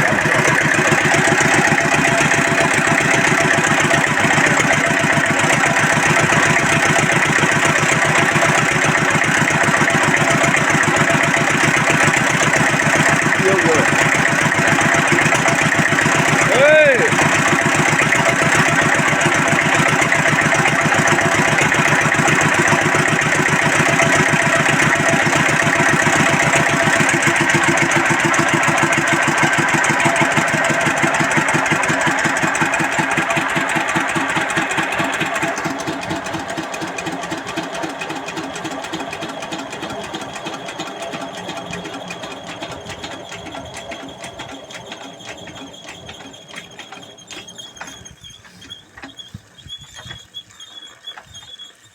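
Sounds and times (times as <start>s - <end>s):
diesel engine thudding: 0.0s - 49.5s.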